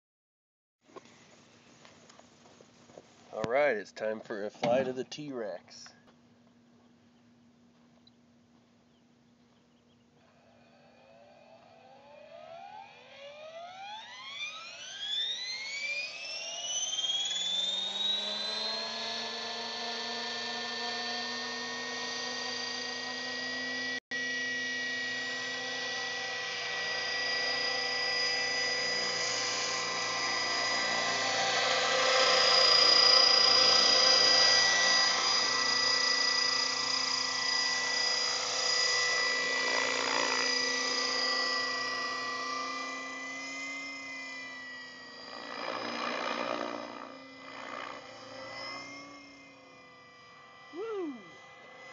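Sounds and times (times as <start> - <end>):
model helicopter whine: 9.9 - 51.9.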